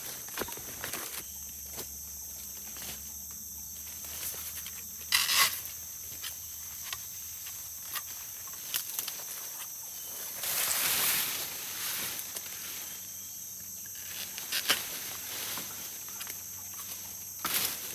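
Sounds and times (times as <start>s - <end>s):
insects droning: 0.0s - 17.9s.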